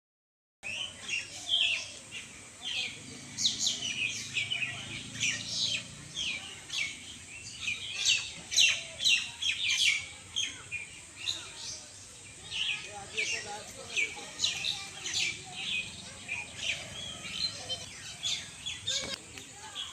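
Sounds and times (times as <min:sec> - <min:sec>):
small birds chirping: 0:00.6 - 0:19.9.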